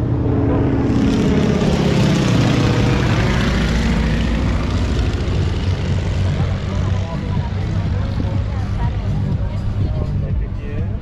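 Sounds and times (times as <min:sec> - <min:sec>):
low-flying aircraft engine and propeller: 0:00.0 - 0:11.0.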